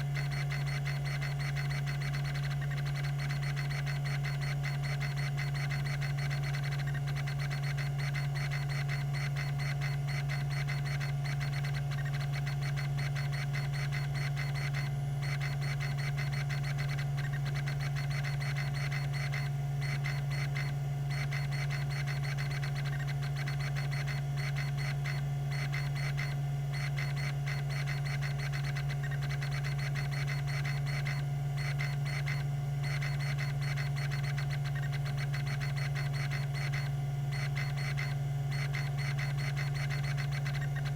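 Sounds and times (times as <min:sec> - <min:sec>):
hard drive spindle hum: 0:00.0 - 0:40.9
rapid ticking of drive head: 0:00.0 - 0:40.9.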